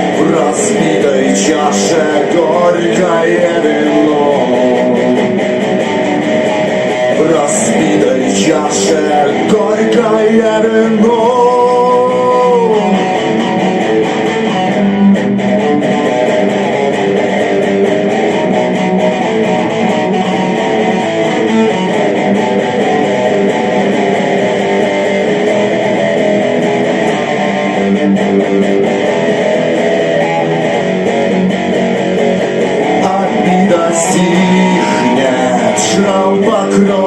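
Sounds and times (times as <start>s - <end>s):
instrumental rock electric guitar: 0.0s - 37.0s.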